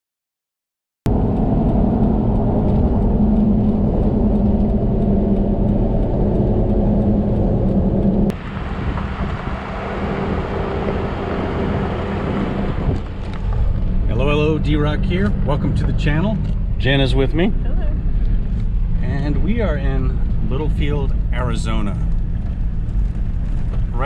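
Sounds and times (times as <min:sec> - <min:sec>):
vehicle engine and road noise: 0:01.1 - 0:24.0.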